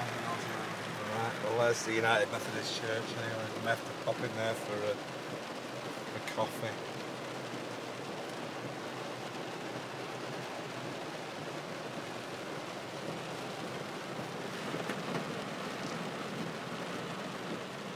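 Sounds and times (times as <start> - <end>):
heavy rain: 0.0 - 17.9
louder rain taps: 0.0 - 17.9.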